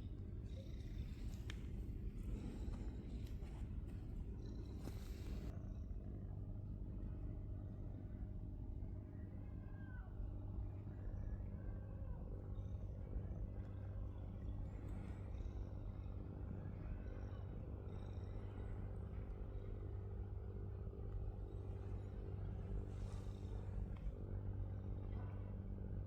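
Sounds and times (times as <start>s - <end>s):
cat purring: 0.0s - 8.1s, 10.4s - 26.0s.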